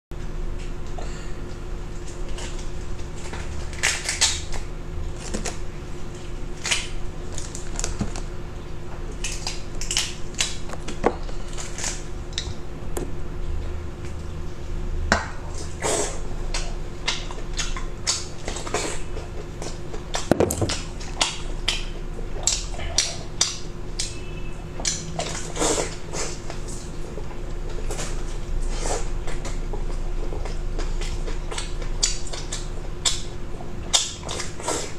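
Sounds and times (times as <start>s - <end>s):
man chewing and crunching: 0.5s - 14.7s, 15.4s - 34.9s.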